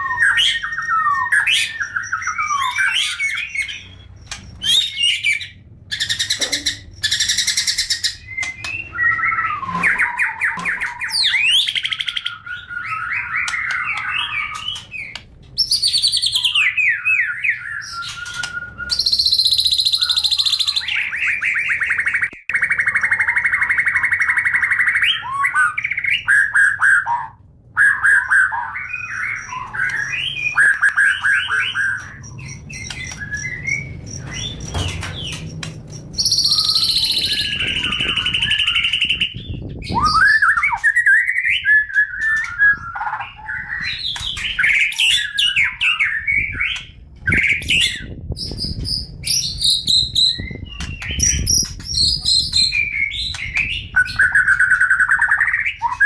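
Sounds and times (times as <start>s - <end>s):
songbird singing whistles and trills: 0.0s - 56.0s.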